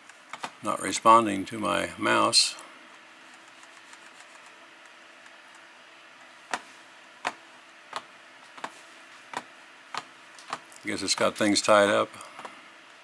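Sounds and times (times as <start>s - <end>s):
laptop cooling fans whirring: 0.0s - 13.0s.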